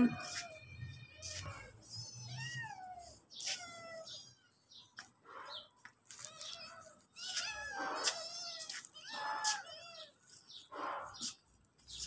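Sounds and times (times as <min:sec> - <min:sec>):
cats and kittens meowing: 0:00.0 - 0:12.0.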